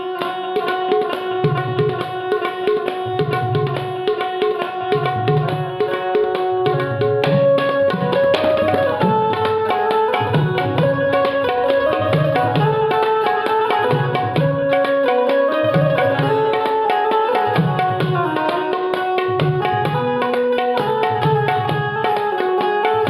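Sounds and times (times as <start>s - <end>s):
plucked banjo melody: 0.0s - 23.0s
tabla rhythm: 0.0s - 23.0s.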